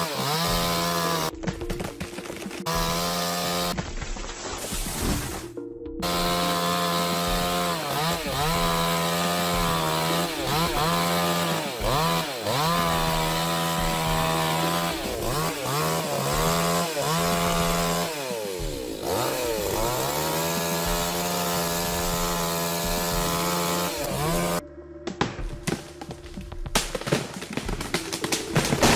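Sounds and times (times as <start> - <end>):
chainsaw cutting wood: 0.0 - 4.4, 5.0 - 24.6, 25.2 - 28.9.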